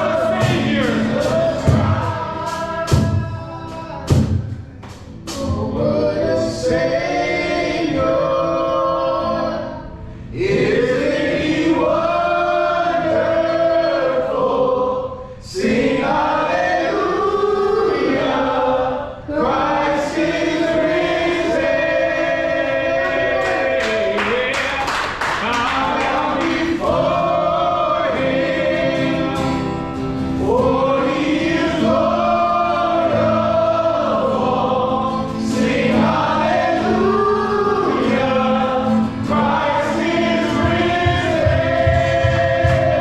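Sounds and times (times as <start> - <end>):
group singing a worship song: 0.0 - 43.0.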